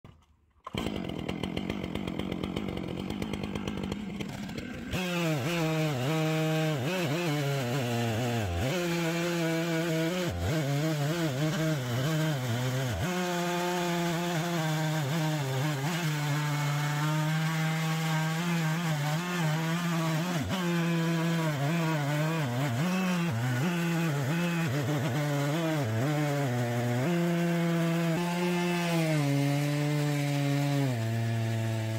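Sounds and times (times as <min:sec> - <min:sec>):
chainsaw cutting log: 0:00.1 - 0:31.9.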